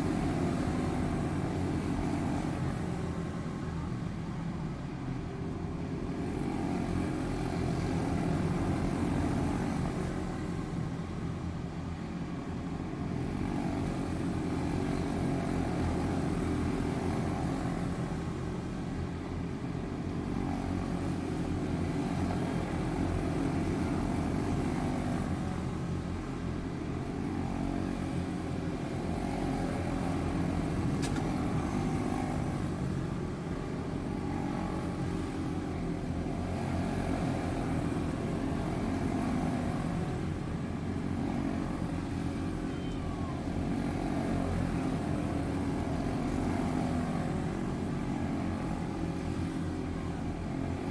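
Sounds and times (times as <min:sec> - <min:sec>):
small race car engines: 0:00.0 - 0:50.9.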